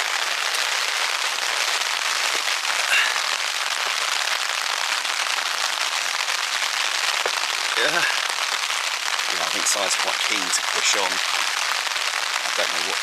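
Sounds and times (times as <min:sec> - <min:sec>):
rain pattering on tent fabric: 0:00.0 - 0:13.0.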